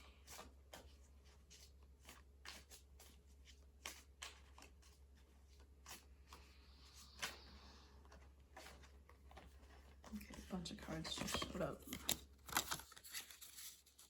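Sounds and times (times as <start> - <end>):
cards being shuffled: 0.1 - 14.0.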